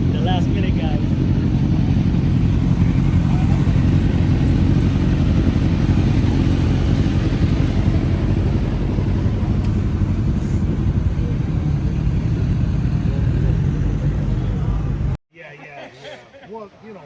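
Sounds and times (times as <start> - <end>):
motorcycle engine rumbling: 0.0 - 15.2.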